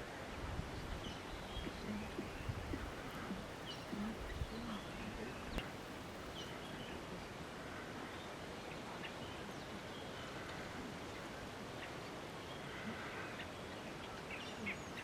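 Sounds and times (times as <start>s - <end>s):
steady background hiss: 0.0s - 15.0s
faint low animal calls: 1.3s - 15.0s.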